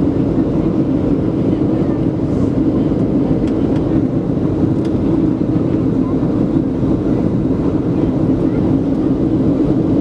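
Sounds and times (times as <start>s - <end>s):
airliner engine drone and airflow: 0.0s - 10.0s.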